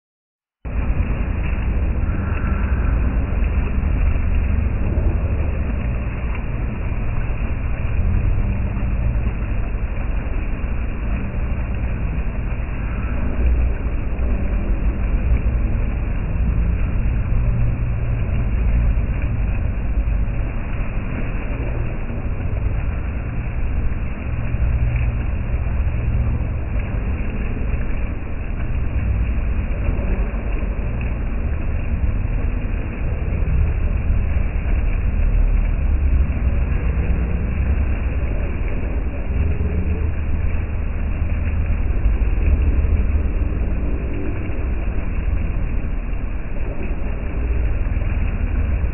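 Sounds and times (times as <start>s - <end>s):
fountain water splashing: 0.7s - 48.9s.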